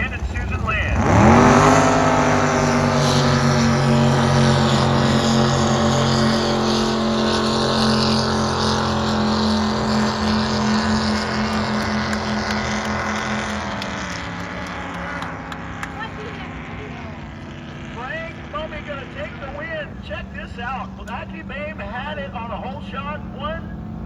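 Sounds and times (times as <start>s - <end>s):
drag boat engines at full throttle: 0.0s - 24.0s.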